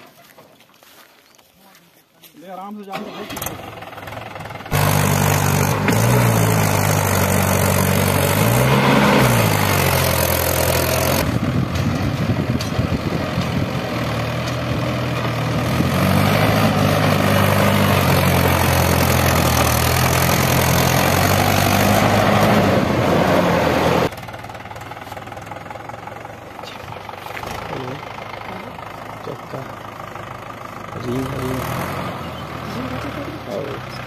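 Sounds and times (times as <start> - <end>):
heavy diesel engine running: 2.9 - 34.0.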